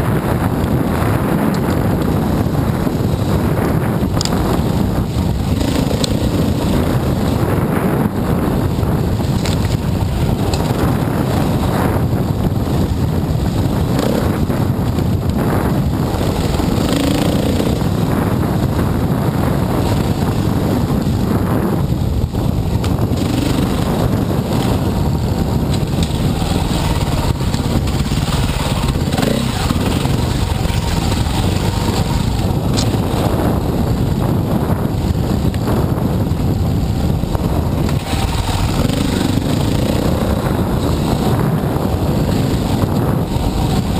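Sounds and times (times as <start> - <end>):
dirt bike engine running: 0.0 - 43.9.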